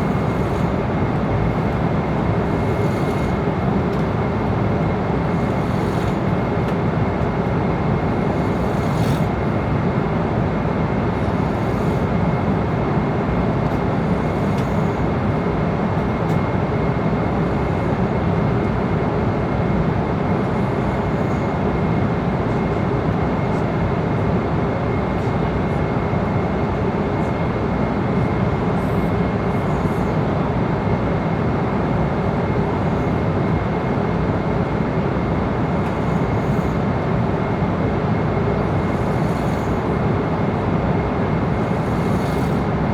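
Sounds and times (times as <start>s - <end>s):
high steady whine: 0.0s - 25.1s, 25.7s - 42.9s
airliner engines and rushing air: 0.0s - 42.9s.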